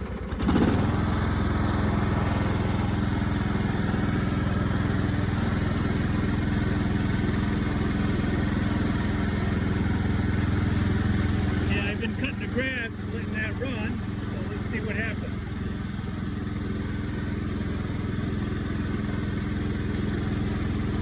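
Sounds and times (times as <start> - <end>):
small engine running steadily: 0.0 - 21.0.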